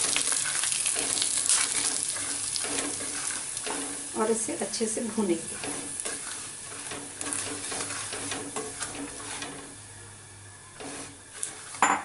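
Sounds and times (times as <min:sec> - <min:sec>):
semolina scraping in pan: 0:00.0 - 0:11.8.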